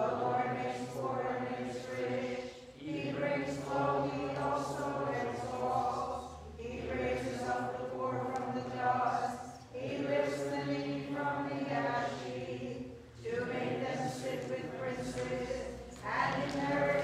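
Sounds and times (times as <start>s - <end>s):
voices singing unaccompanied chant: 0.0s - 17.0s.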